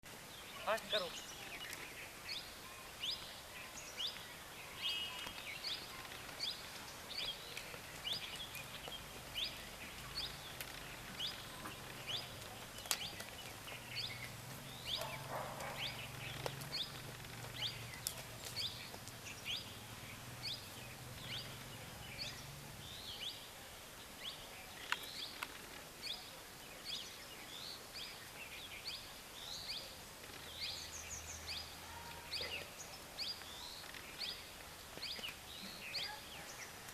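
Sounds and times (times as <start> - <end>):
outdoor background noise: 0.0 - 36.9
bird chirping: 0.1 - 36.9.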